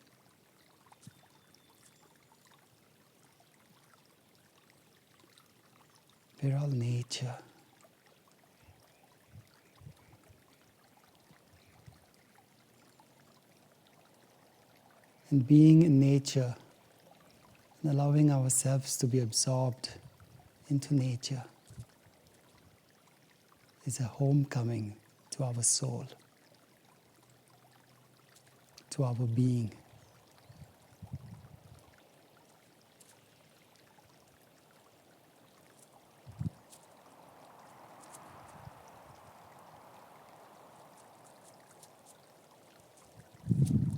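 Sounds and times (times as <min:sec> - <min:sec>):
small stream trickling: 0:00.0 - 0:43.9.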